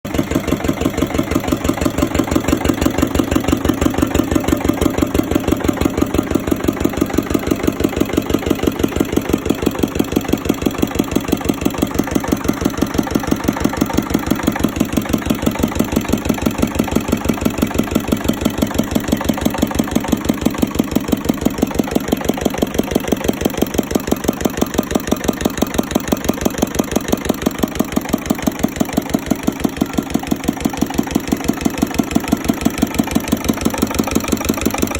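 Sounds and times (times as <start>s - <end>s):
engine running steadily: 0.1s - 34.9s.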